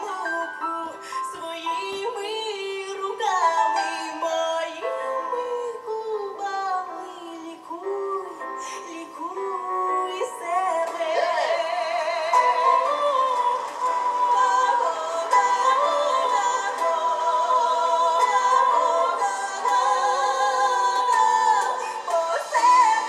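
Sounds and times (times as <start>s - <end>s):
high female voices singing: 0.0s - 23.0s
instrumental accompaniment: 0.0s - 23.0s.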